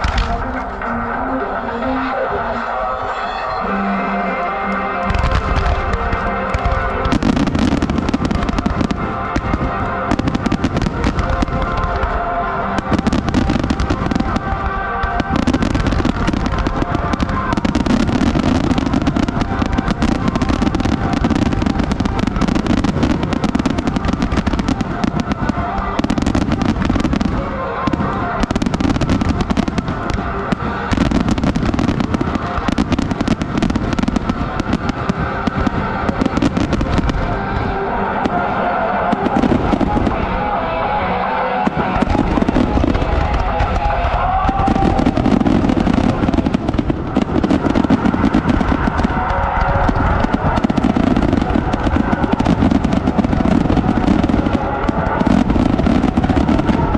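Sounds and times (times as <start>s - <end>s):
fireworks bursting and crackling: 0.0s - 56.9s
music playing: 0.0s - 56.9s.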